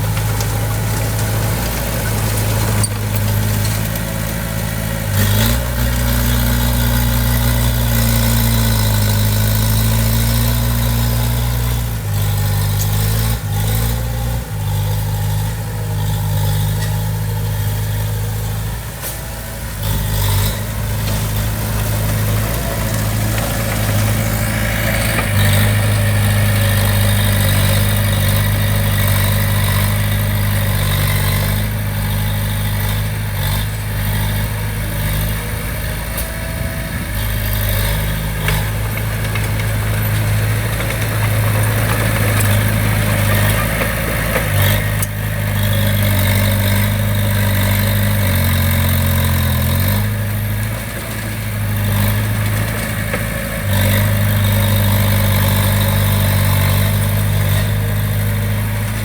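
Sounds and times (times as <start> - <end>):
diesel engine of construction machine: 0.0 - 59.0.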